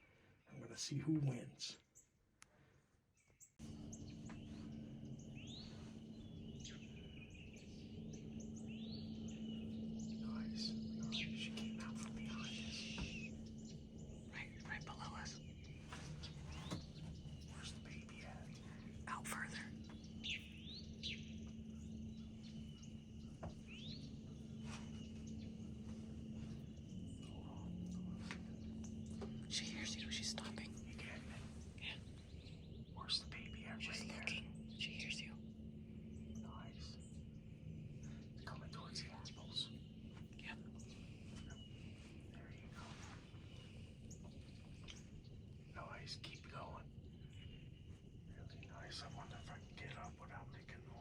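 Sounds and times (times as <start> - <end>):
birds chirping: 0.0 - 51.0
insect trill: 3.6 - 51.0
steady low hum: 3.6 - 51.0.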